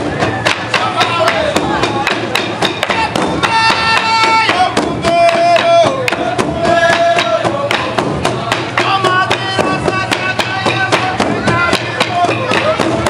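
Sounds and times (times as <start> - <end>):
large drums beaten with sticks: 0.0 - 13.0.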